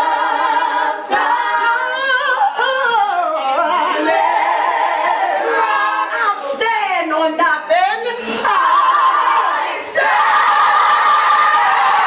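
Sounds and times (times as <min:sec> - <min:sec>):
voices singing a cappella: 0:00.0 - 0:06.7, 0:08.0 - 0:12.0.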